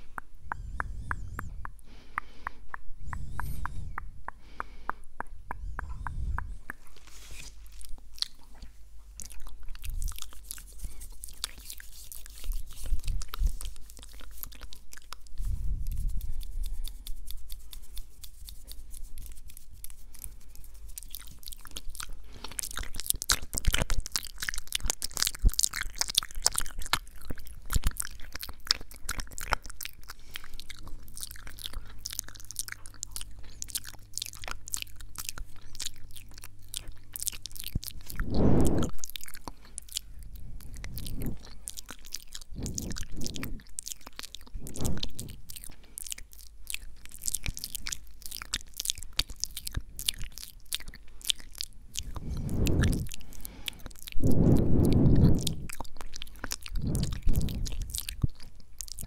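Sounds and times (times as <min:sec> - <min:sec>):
wet mouth clicks and smacks: 0:00.0 - 0:07.0, 0:07.6 - 0:59.0.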